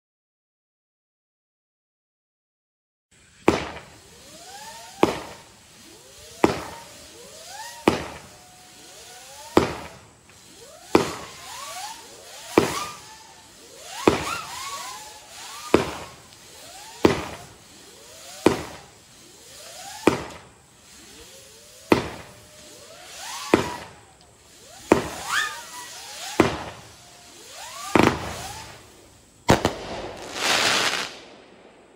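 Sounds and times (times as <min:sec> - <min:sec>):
fireworks whistling tones: 0:03.1 - 0:31.9
fireworks bangs: 0:03.2 - 0:31.9.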